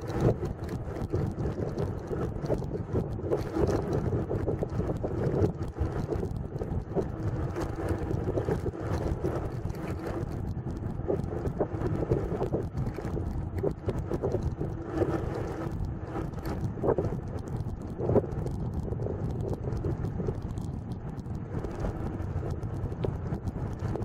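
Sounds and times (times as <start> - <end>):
bicycle tyres rolling over paving: 0.0 - 24.0
bike rattles and knocks: 0.0 - 24.0
wind buffeting microphone: 0.0 - 24.0.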